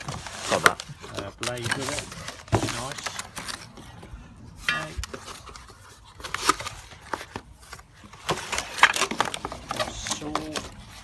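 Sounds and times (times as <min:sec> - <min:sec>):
packaging rustling: 0:00.0 - 0:04.1, 0:04.8 - 0:11.0.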